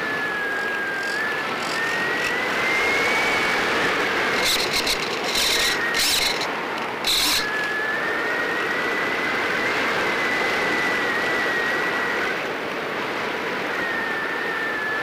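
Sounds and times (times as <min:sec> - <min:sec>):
electric motor and propeller whine: 0:00.0 - 0:15.0.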